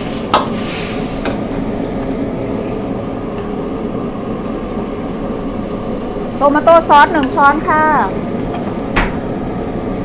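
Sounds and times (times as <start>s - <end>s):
noodles sizzling in a wok: 0.0s - 10.0s.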